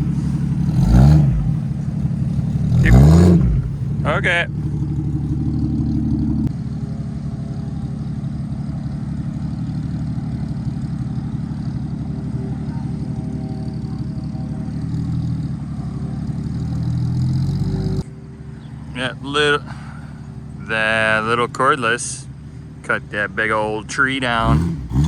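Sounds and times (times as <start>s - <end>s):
engine running at low revs: 0.0s - 25.0s.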